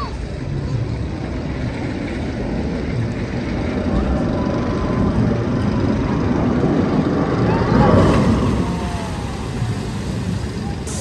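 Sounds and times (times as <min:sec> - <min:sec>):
roller coaster rumbling on track: 0:00.0 - 0:11.0.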